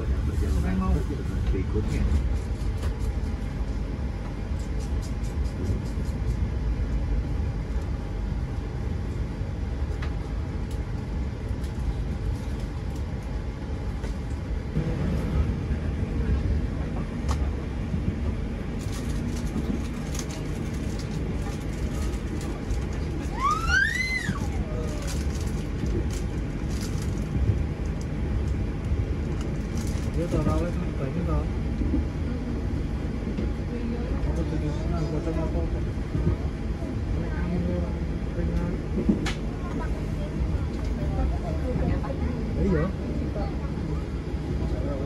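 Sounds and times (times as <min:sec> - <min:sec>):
train running low rumble: 0:00.0 - 0:45.0.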